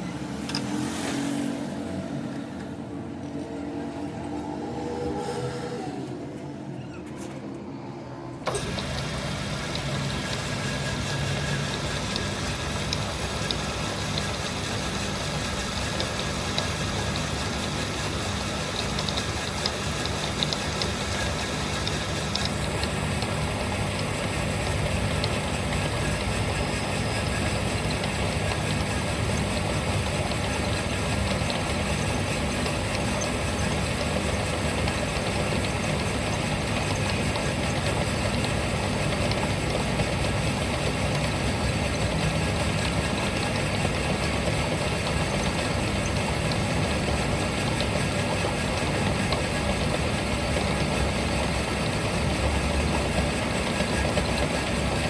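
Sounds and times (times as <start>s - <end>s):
engine idling: 8.4s - 55.0s.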